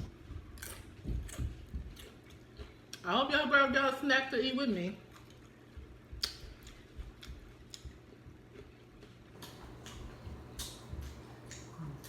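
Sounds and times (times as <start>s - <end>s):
chewing crunchy chips: 0.0s - 3.1s, 5.0s - 12.0s.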